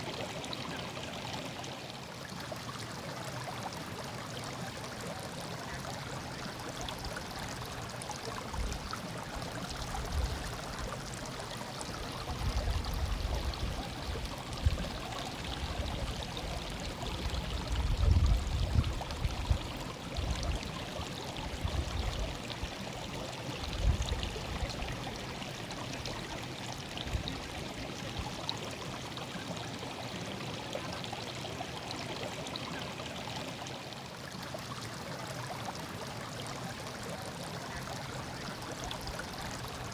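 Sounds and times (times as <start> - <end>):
small stream murmuring: 0.0 - 39.9.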